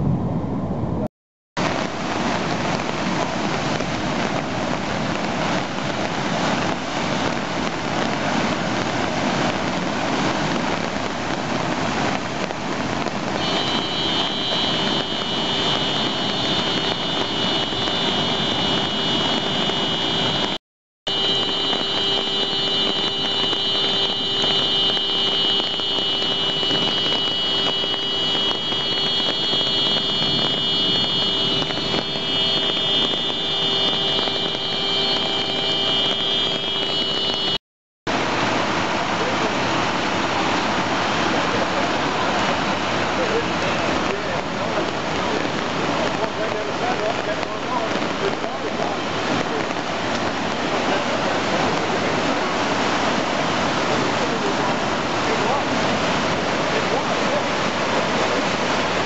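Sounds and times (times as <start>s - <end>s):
floodwater rushing: 1.6s - 59.0s.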